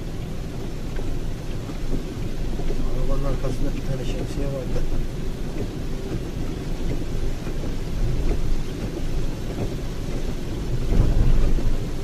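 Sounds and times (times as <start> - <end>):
heavy rain on car windshield: 0.0 - 12.0
tyres rumbling on wet road: 0.0 - 12.0.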